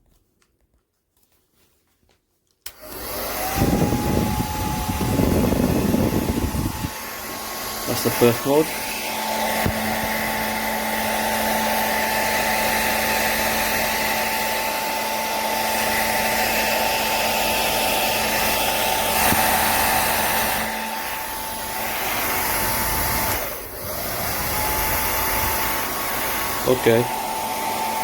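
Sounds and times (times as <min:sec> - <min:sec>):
hair dryer running: 0:02.7 - 0:28.0.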